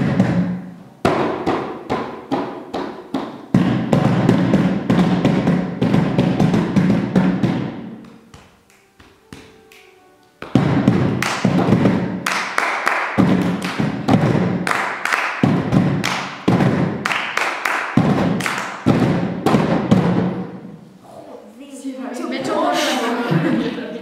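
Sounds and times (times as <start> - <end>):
hands drumming on plastic boxes: 0.0 - 9.6, 10.4 - 20.5.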